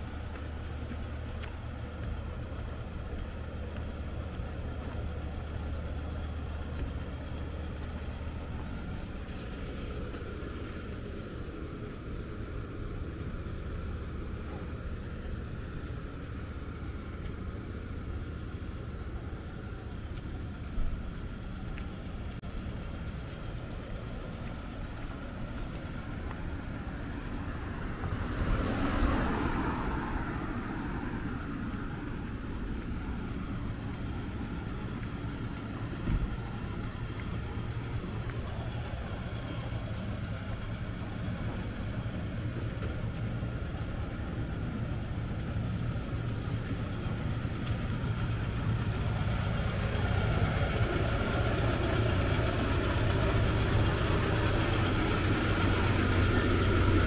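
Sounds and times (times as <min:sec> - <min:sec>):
low engine hum: 0:00.0 - 0:57.0
traffic: 0:00.0 - 0:57.0.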